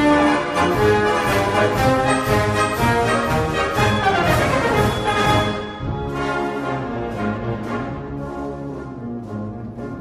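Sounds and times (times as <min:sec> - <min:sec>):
orchestral music with brass: 0:00.0 - 0:10.0.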